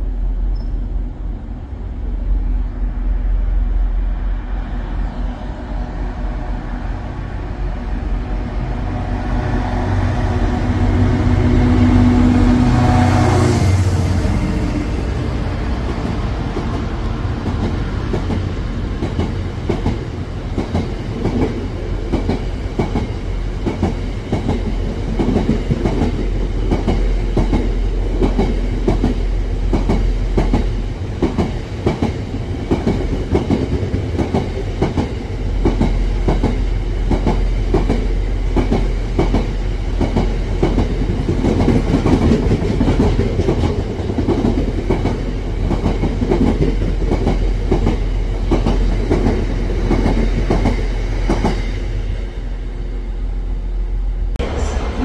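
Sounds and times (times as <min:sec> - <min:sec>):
train engine passing: 0:00.0 - 0:55.0.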